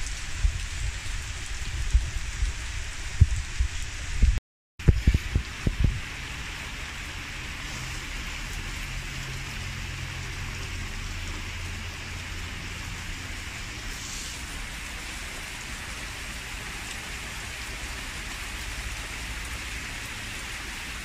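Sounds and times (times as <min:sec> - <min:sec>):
heavy rain on wet street: 0:00.0 - 0:21.0.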